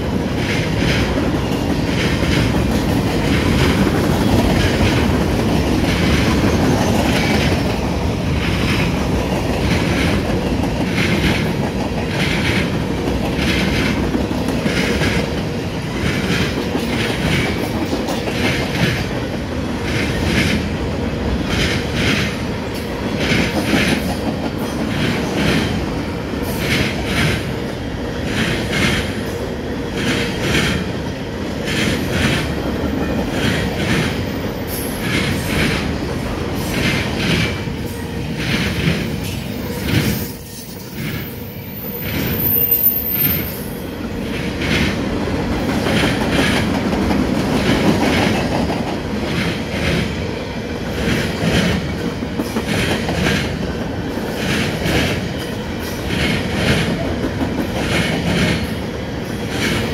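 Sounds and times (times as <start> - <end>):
rhythmic clickety-clack of wheels: 0.0 - 59.9
train wheels rumbling on rails: 0.0 - 59.9.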